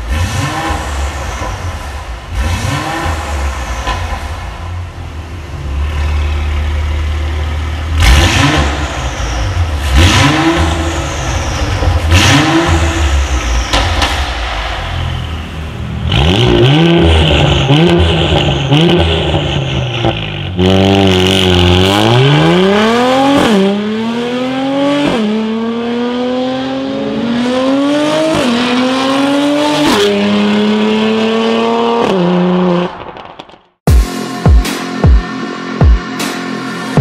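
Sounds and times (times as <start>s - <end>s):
car engine revving and accelerating: 0.0s - 33.0s.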